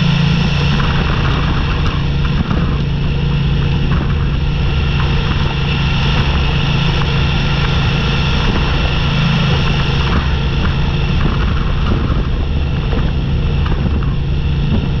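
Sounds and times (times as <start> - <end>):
motorcycle engine drone: 0.0 - 15.0
road and wind noise: 0.0 - 15.0.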